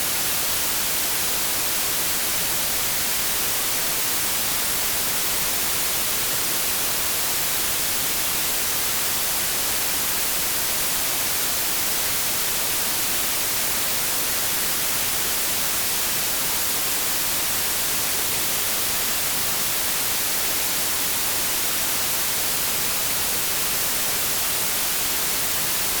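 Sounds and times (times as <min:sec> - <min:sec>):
bright white noise hiss: 0:00.0 - 0:26.0.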